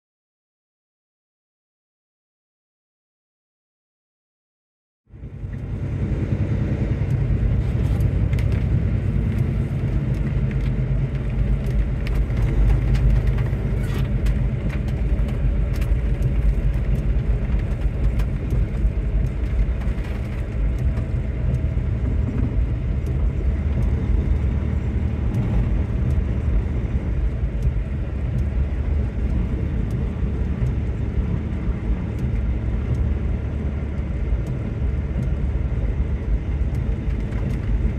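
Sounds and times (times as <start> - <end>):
car road rumble: 5.1 - 37.9.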